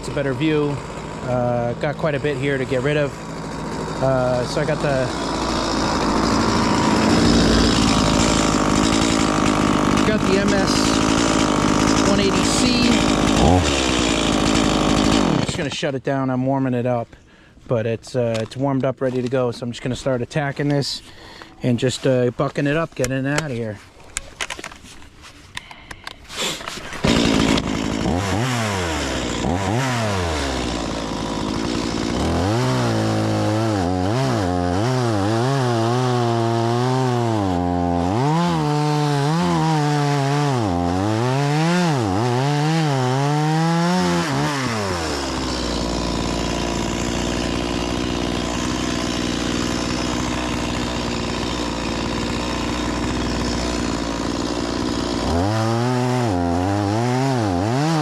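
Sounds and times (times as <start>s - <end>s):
chainsaw revving: 0.0s - 15.8s, 26.4s - 58.0s.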